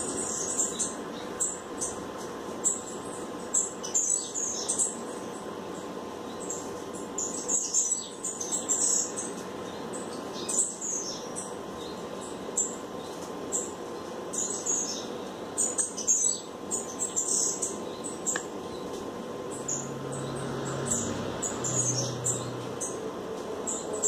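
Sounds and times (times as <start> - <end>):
low background hum: 0.0 - 24.0
small birds chirping: 0.0 - 24.0.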